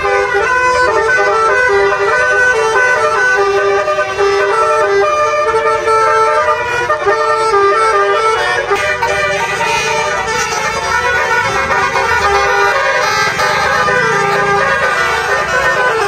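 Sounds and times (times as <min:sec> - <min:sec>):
multi-tone horn playing a tune: 0:00.0 - 0:16.0.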